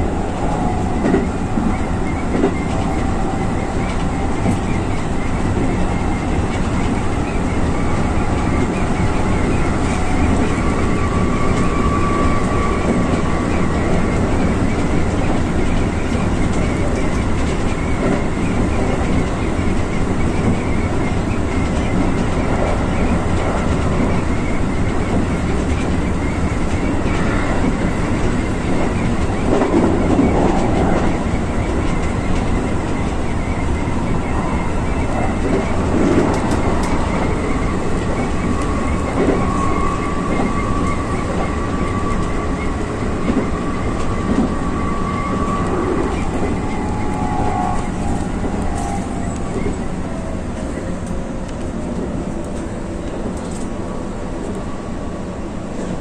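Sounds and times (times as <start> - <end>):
high wheel squeal: 0.0 - 51.1
train wheels rumbling on rail: 0.0 - 56.0.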